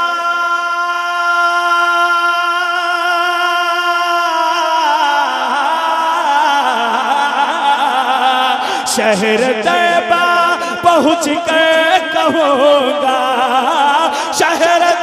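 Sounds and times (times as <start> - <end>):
man singing devotional song: 0.0 - 15.0.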